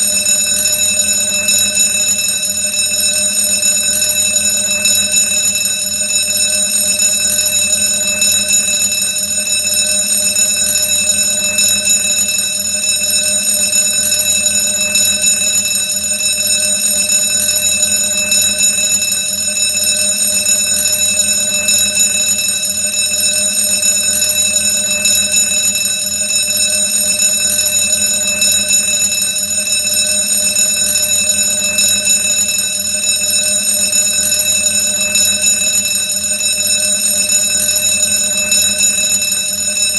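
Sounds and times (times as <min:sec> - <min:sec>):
alarm bell ringing: 0:00.0 - 0:39.9.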